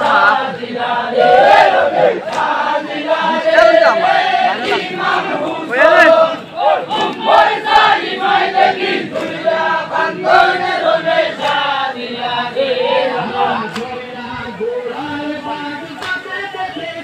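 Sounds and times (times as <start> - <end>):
crowd noise: 0.0 - 17.0
men chanting together: 0.0 - 17.0.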